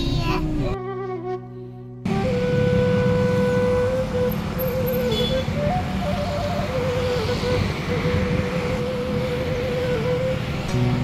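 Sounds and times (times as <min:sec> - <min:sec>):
slow melody of held notes: 0:00.4 - 0:11.0.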